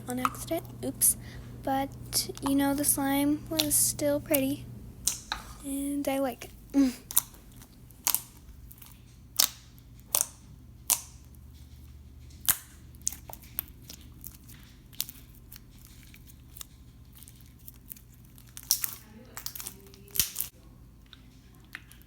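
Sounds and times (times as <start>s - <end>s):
slime popping: 0.0s - 11.6s, 12.3s - 20.5s.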